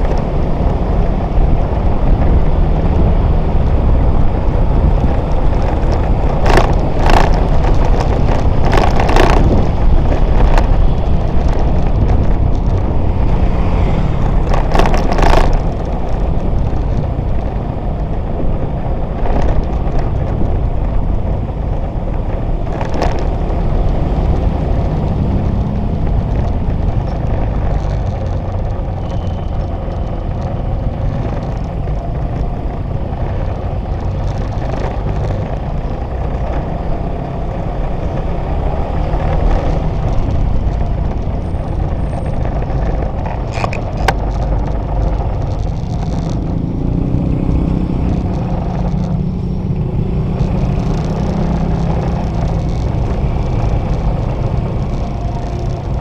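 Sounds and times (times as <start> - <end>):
traffic engines: 0.0 - 56.0.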